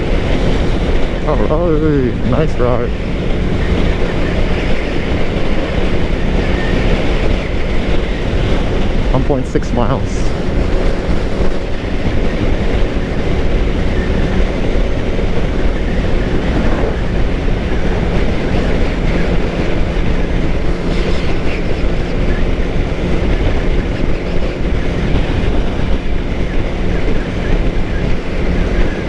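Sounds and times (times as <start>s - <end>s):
motorcycle engine cruising: 0.0s - 9.4s, 10.1s - 29.0s
wind on microphone: 0.0s - 29.0s.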